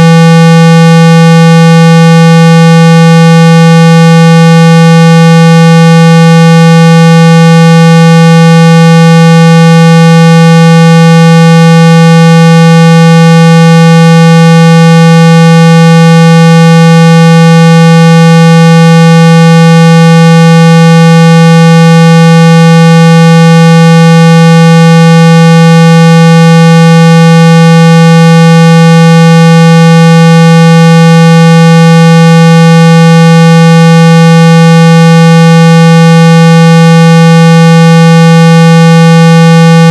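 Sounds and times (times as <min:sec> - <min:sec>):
buzzy loud test tone: 0:00.0 - 0:39.9.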